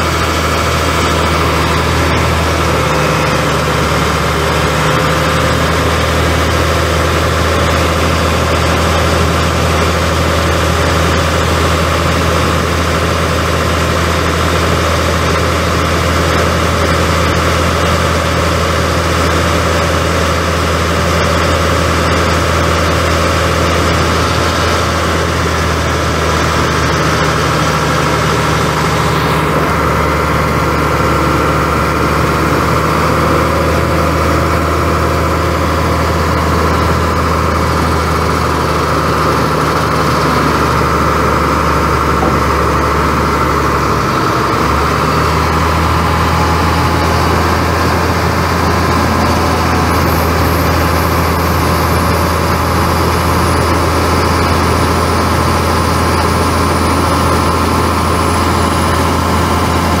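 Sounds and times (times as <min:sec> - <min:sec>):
diesel truck engine idling: 0:00.0 - 1:00.0.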